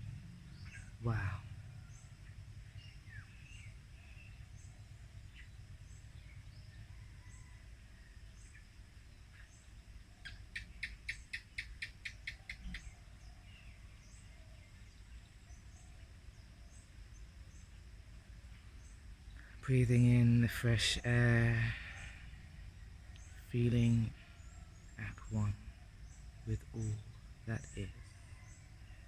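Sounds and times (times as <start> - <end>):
low steady rumble: 0.0 - 11.3, 12.8 - 29.0
birds chirping faintly: 0.0 - 29.0.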